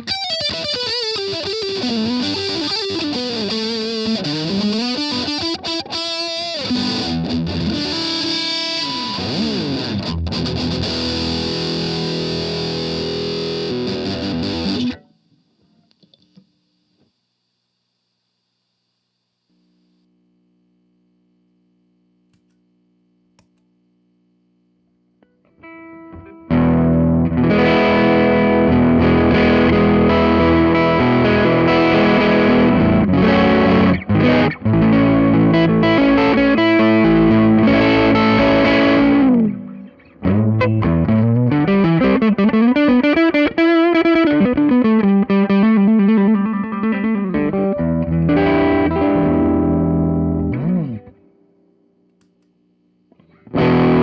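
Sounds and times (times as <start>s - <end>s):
distorted electric guitar: 0.0s - 16.4s, 25.2s - 51.7s, 53.1s - 54.0s.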